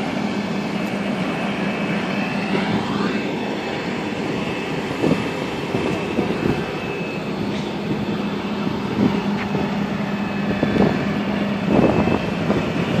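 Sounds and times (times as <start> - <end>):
fire engine idling: 0.0 - 13.0.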